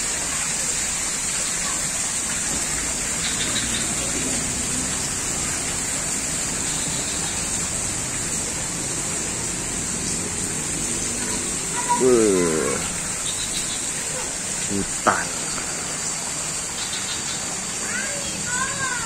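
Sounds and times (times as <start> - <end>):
constant high hiss: 0.0 - 19.0
running water rushing: 0.0 - 19.0.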